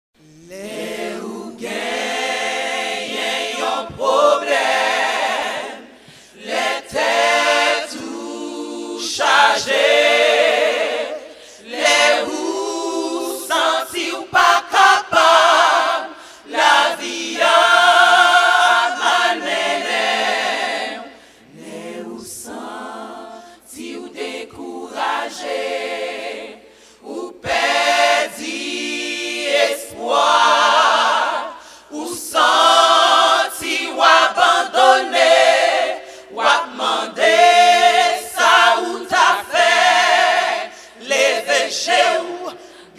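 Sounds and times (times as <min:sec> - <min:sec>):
women's choir singing a cappella: 0:00.5 - 0:42.9.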